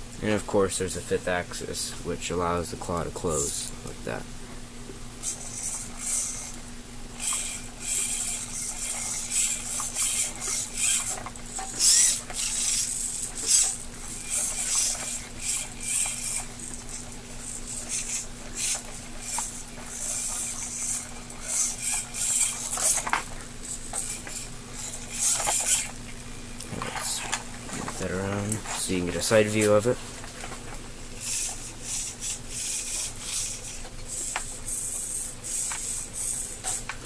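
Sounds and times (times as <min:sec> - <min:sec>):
steady low hum: 0:00.0 - 0:37.0
servos whirring: 0:02.8 - 0:04.2, 0:05.2 - 0:37.0.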